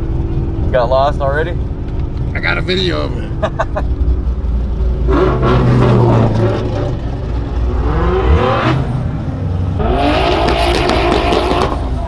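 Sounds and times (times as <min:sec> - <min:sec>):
car engine revving: 0:01.5 - 0:12.0.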